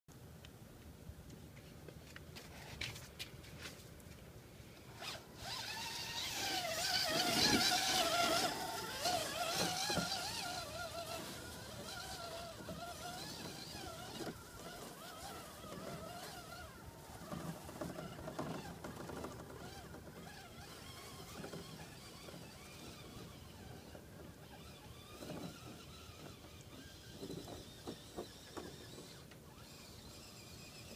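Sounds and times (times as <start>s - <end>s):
rc truck motor whining: 4.9s - 30.9s.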